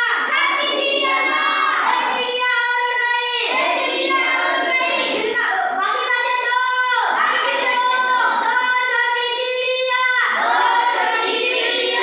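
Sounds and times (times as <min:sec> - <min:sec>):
child singing: 0:00.0 - 0:12.0.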